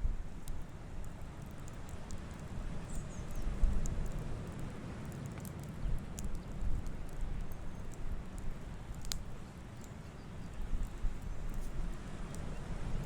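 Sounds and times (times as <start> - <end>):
fire low rumble: 0.0 - 13.0
wood crackling and popping: 0.0 - 13.0.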